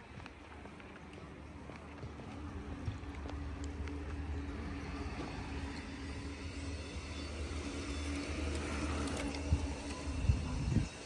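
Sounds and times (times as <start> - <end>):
city rumble: 0.0 - 11.0.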